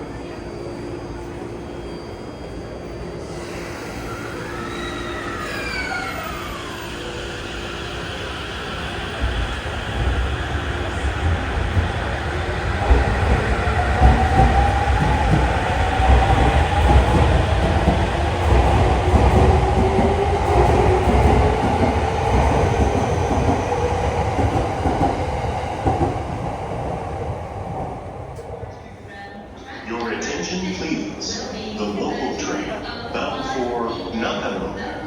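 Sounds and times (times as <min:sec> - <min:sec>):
electric train rumbling on rails: 0:00.0 - 0:35.0.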